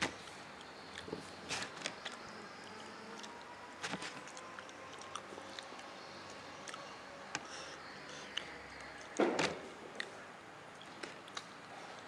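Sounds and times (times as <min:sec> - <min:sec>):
faint chewing: 0:00.6 - 0:09.2, 0:09.9 - 0:12.0.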